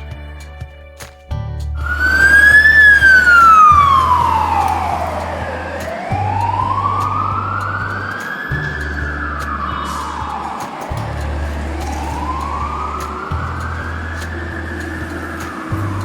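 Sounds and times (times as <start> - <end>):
low steady notes: 0.0 - 16.0
wailing siren: 1.9 - 16.0.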